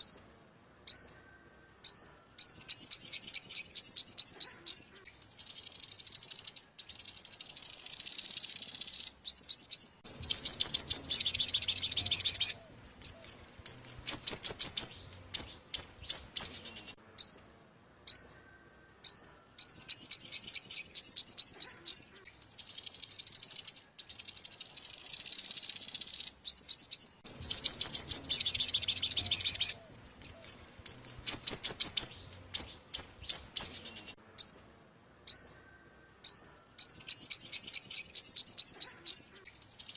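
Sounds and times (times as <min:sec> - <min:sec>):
bird trilling and chirping: 0:00.9 - 0:39.9.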